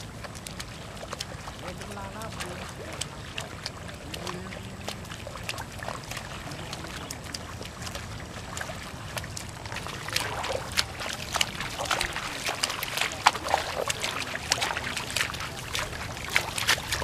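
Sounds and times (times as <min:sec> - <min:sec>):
splashes and squelches in mud: 0:00.0 - 0:17.0
steady low rumble: 0:00.0 - 0:17.0.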